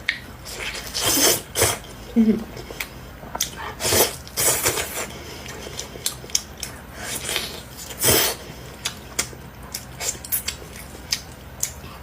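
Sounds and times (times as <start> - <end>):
chewing and gnawing meat: 0.1 - 12.0.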